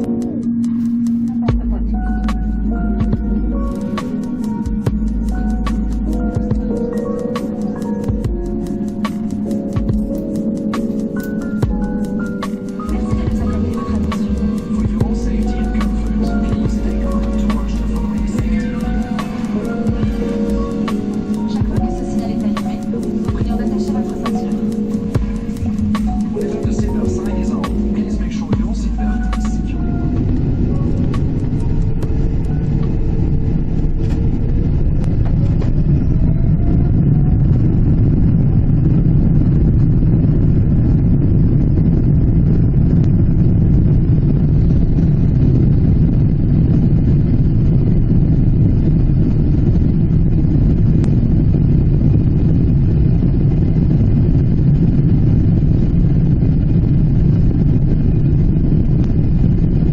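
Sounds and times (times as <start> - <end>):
engine whine rising: 0.0 - 59.9
jet engines rumbling in cabin: 0.0 - 59.9.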